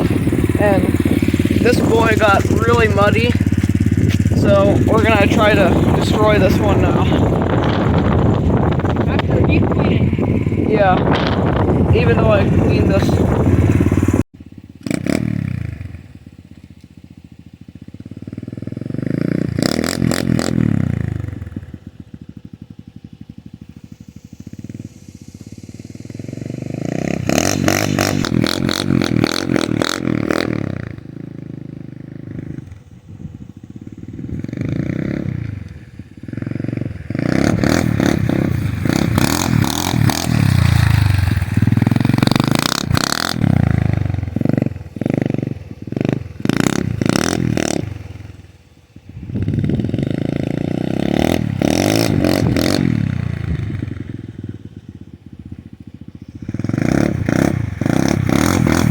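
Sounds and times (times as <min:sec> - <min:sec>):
pit bike engine revving: 0:00.0 - 0:16.4, 0:17.2 - 0:58.9.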